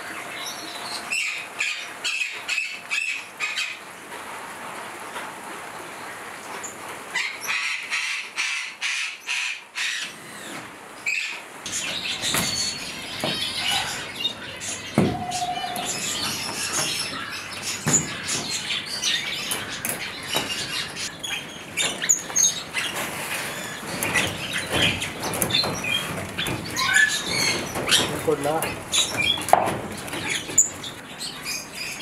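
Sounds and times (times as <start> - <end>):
small birds chirping: 0.0 - 3.8, 9.0 - 32.0.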